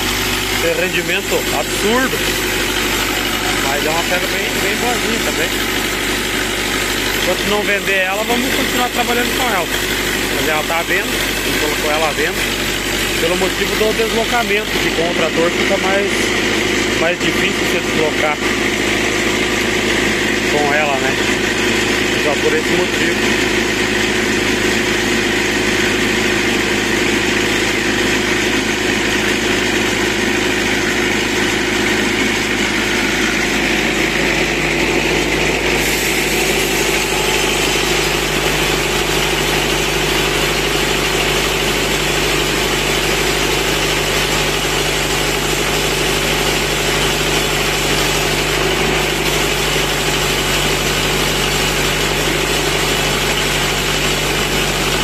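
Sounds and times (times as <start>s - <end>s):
saw blade cutting log: 0.0s - 55.0s
tractor engine running: 0.0s - 55.0s.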